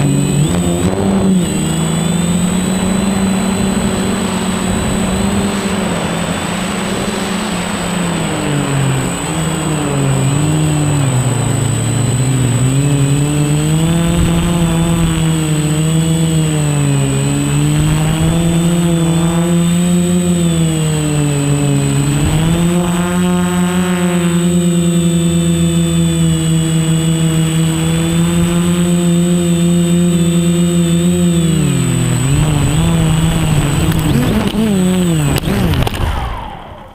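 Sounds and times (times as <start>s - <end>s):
drone propellers whining: 0.0s - 36.9s.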